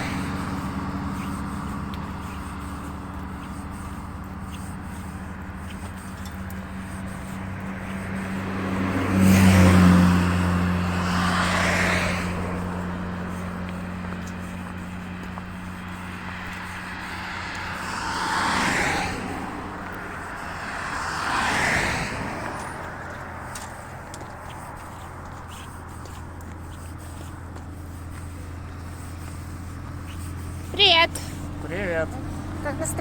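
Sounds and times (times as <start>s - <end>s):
cars passing on road: 0.0s - 33.0s.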